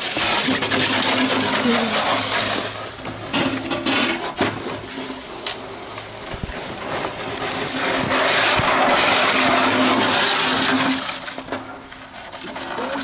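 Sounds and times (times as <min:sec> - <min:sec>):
cart rattling over ice: 0:00.0 - 0:13.0.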